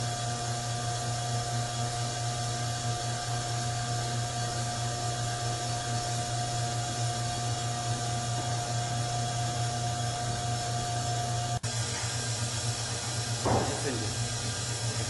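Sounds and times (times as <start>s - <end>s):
brake lathe motor humming and whining: 0.0s - 15.0s.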